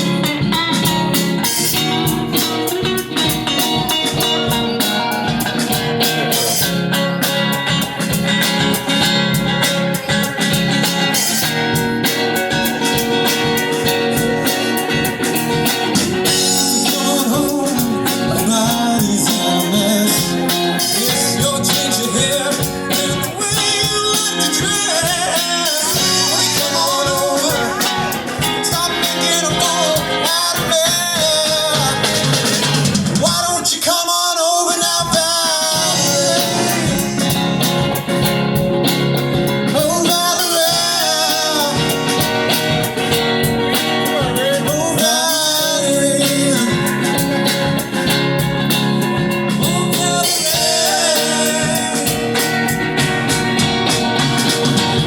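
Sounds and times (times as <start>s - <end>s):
rock blues song with singing: 0.0s - 55.0s.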